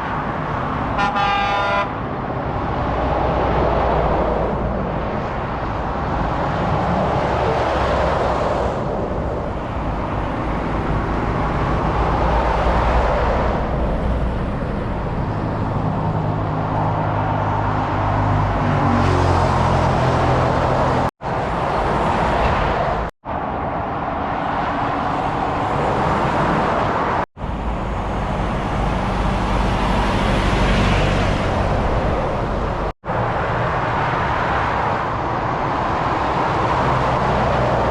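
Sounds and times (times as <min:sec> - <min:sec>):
heavy truck engine: 0:00.0 - 0:37.9
motorway traffic passing: 0:00.0 - 0:37.9.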